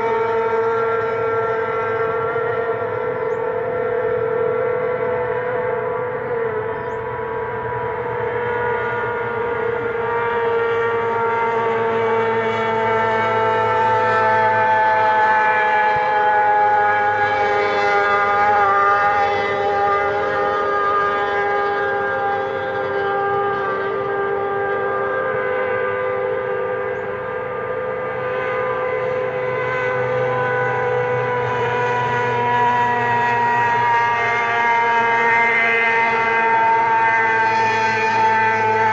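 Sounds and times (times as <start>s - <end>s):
racing boat engine whine: 0.0s - 38.9s.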